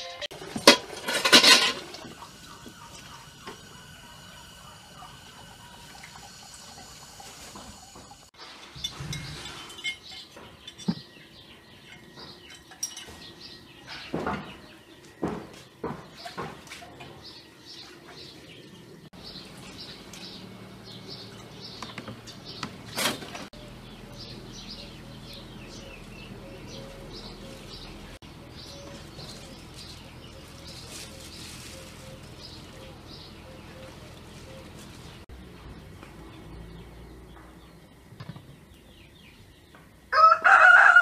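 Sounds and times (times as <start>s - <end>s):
small birds chirping: 2.1s - 7.3s, 8.8s - 40.0s.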